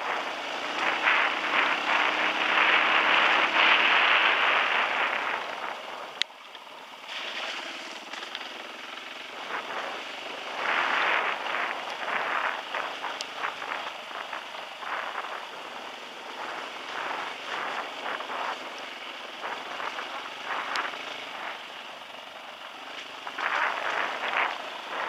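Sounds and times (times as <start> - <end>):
wind and water spray rushing: 0.0 - 6.2, 7.0 - 25.0
dirt bike engine: 0.0 - 25.0.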